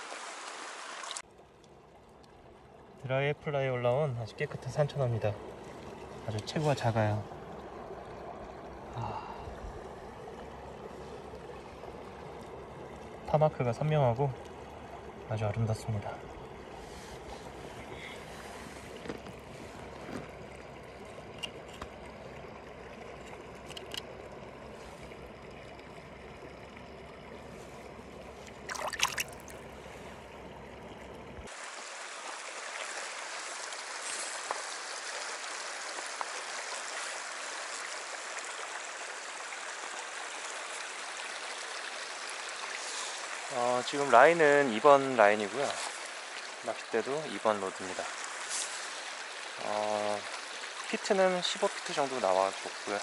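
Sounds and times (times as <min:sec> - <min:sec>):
river water rushing: 0:00.0 - 0:01.2, 0:04.3 - 0:30.6, 0:31.5 - 0:53.0
stream running over stones: 0:00.0 - 0:53.0.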